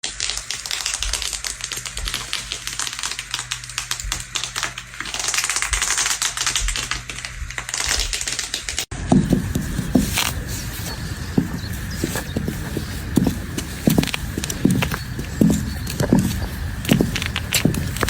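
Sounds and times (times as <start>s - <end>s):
leather creaking and crackling: 0.3s - 18.0s
faint low hum: 0.6s - 18.0s.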